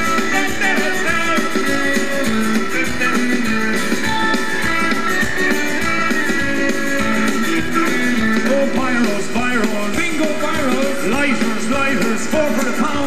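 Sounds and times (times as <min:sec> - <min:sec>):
drums: 0:00.0 - 0:13.0
electric guitar: 0:00.0 - 0:13.0
live rock band: 0:00.0 - 0:13.0.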